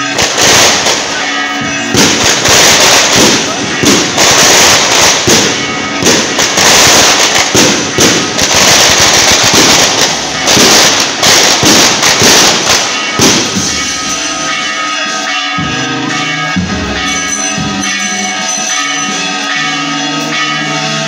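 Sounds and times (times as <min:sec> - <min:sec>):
firecrackers crackling: 0:00.0 - 0:19.6
band music: 0:00.0 - 0:21.0.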